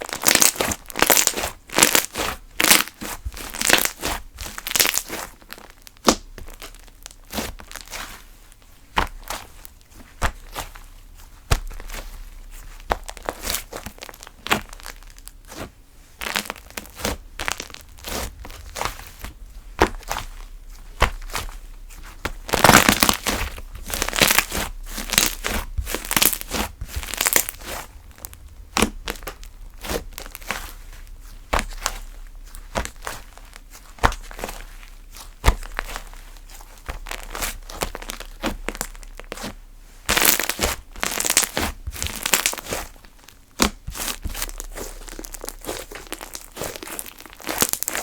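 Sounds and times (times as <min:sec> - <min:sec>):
hands squishing slime: 0:00.0 - 0:48.0.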